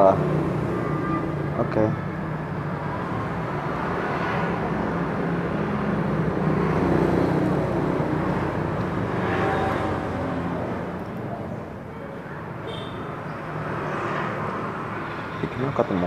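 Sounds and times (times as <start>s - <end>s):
vehicles passing close by: 0.0s - 16.0s.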